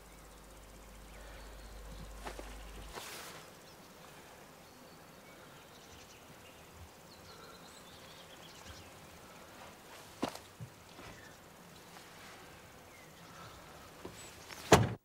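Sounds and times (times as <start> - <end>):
distant birds chirping: 0.0 - 14.9.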